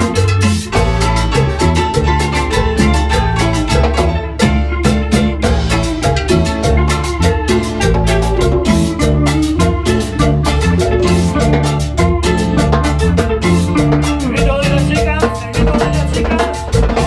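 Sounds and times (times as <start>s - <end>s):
latin dance band music: 0.0s - 17.0s.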